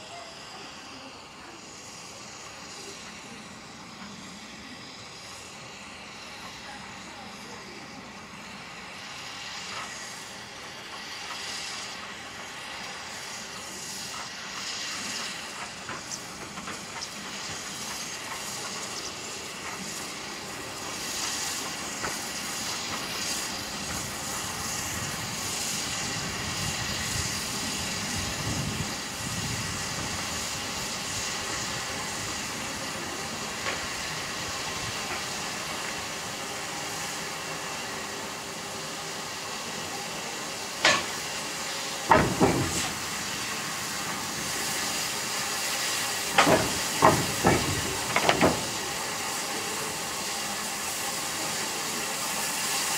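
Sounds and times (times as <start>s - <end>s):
steam locomotive hissing: 0.0s - 52.9s.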